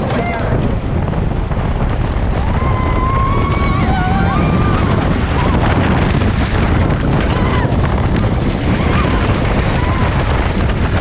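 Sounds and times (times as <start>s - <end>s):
roller coaster rumbling on track: 0.0s - 11.0s
wind buffeting microphone: 0.0s - 11.0s.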